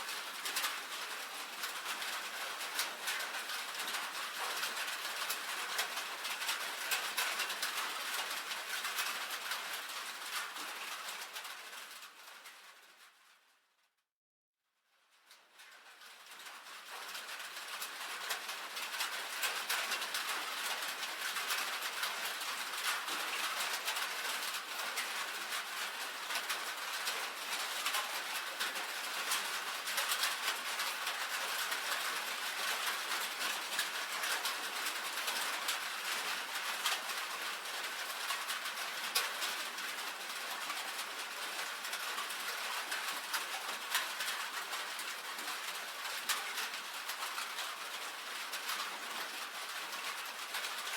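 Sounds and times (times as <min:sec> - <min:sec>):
rain on a tin roof: 0:00.0 - 0:13.8, 0:14.8 - 0:50.9.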